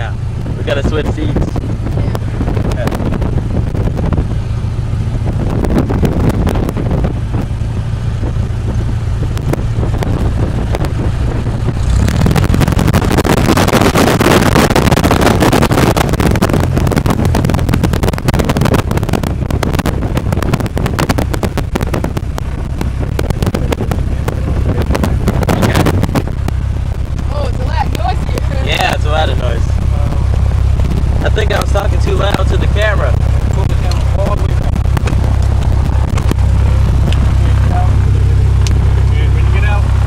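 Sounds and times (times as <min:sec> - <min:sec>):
rushing air: 0:00.0 - 0:40.0.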